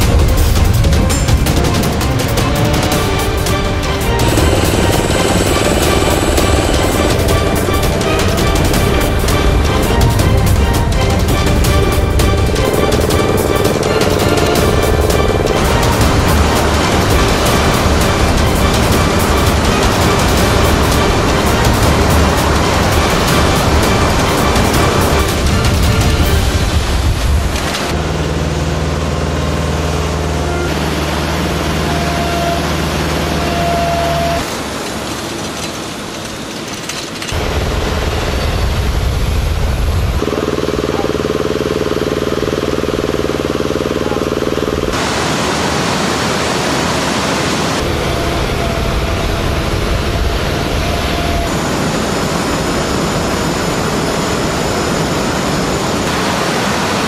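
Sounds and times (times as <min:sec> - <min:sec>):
hum of engines and machinery: 0:00.0 - 0:57.0.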